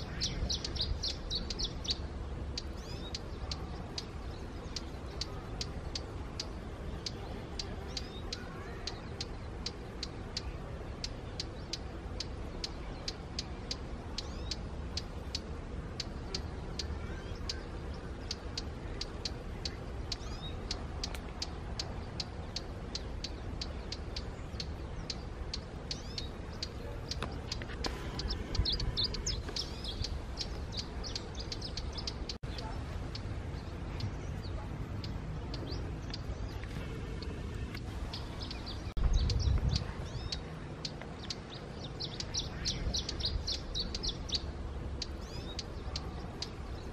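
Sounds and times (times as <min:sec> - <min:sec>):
birds chirping: 0:00.0 - 0:46.9
low background rumble: 0:00.0 - 0:46.9
small birds ticking calls: 0:00.0 - 0:46.9.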